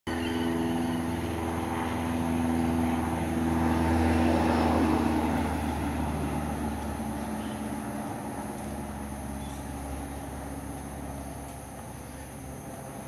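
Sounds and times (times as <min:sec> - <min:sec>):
engine running: 0:00.1 - 0:13.0.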